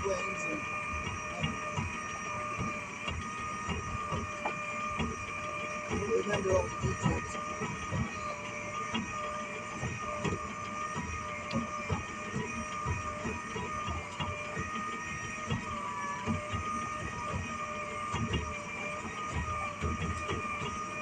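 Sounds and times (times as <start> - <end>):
motorized hauler whine: 0.0 - 21.0.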